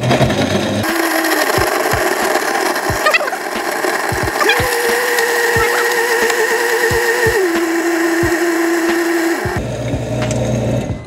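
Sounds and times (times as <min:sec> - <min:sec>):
ice knocking in blender: 0:00.0 - 0:10.6
blender whirring: 0:00.0 - 0:11.0.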